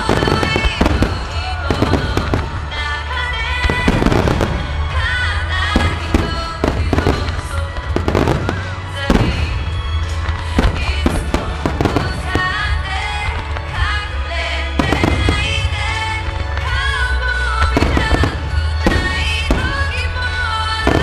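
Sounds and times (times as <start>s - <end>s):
firework booms and cracks: 0.0s - 2.9s, 3.6s - 14.0s, 14.7s - 21.0s
loud music: 0.0s - 21.0s.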